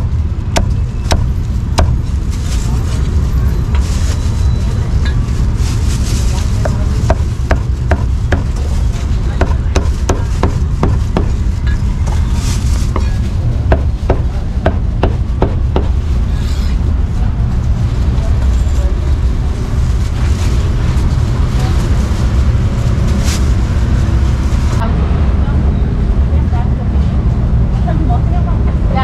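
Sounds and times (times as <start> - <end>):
constant low rumble: 0.0 - 29.0.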